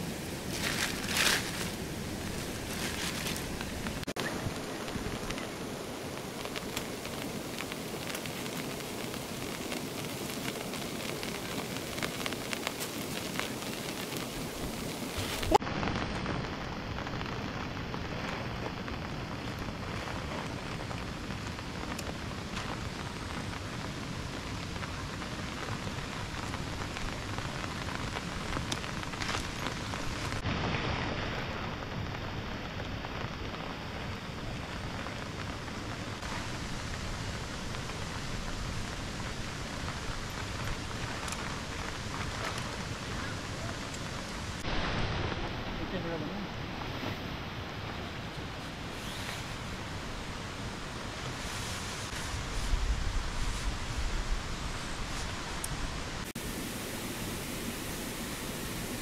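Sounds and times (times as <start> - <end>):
raindrops ticking close by: 0.0 - 30.4, 31.2 - 57.0
heavy rain hissing: 0.0 - 59.0.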